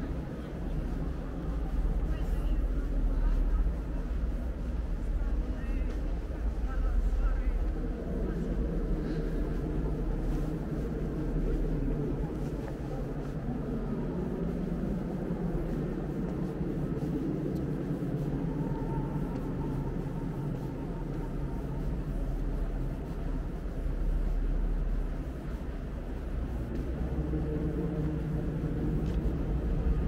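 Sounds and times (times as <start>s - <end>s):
low rumbling hall ambience: 0.0s - 30.0s.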